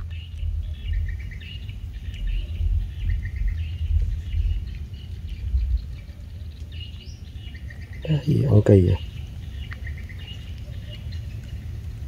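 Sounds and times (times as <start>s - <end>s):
low uneven rumble: 0.0s - 12.0s
small birds chirping: 0.0s - 12.0s.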